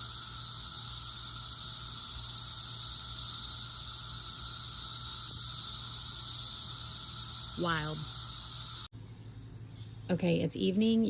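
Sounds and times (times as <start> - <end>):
cicadas singing: 0.0 - 10.1.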